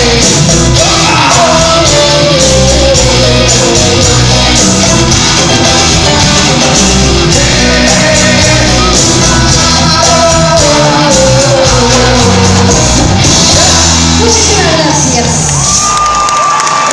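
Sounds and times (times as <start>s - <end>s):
live band playing a ballad: 0.0s - 16.1s.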